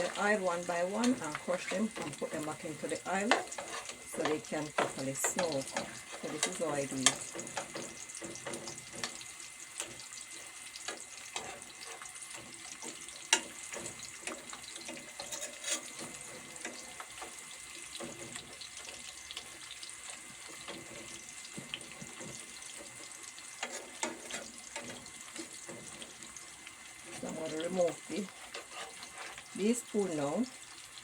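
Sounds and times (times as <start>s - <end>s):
plantain frying in hot oil: 0.0s - 31.0s.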